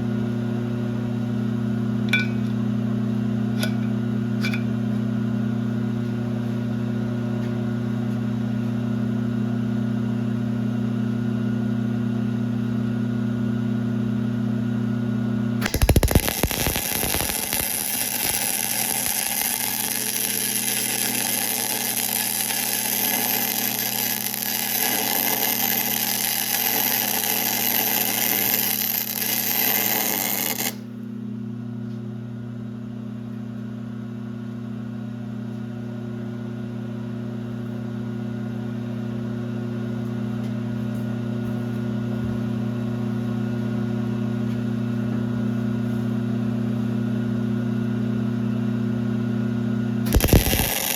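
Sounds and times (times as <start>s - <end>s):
machinery electrical hum: 0.0s - 50.9s.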